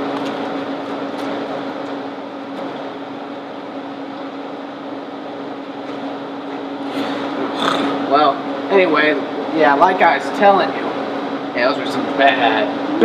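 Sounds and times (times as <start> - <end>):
mechanical room hum and hiss: 0.0 - 13.0.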